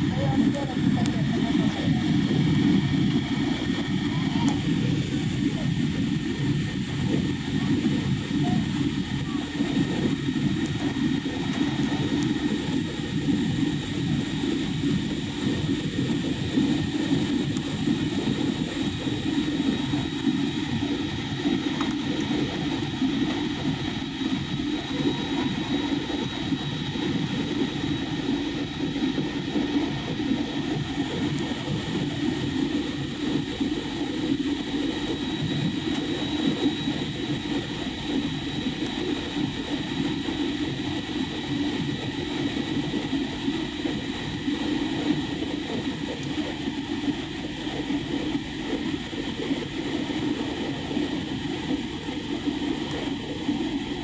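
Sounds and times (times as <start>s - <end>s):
airliner cabin engine rush: 0.0s - 54.0s.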